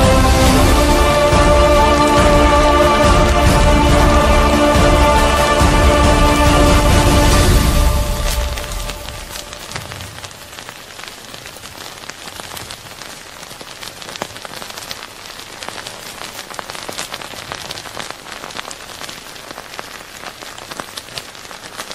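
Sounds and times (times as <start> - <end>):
lava crackling and hissing: 0.0 - 21.9.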